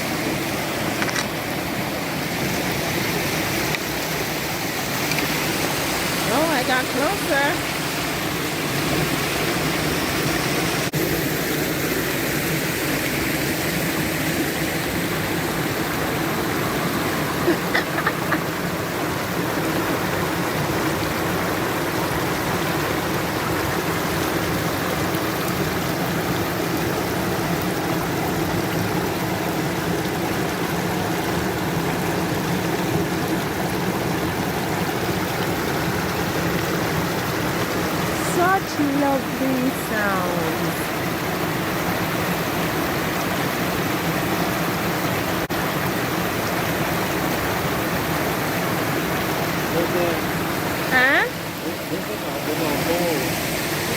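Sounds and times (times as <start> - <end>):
stream running over rocks: 0.0 - 53.9.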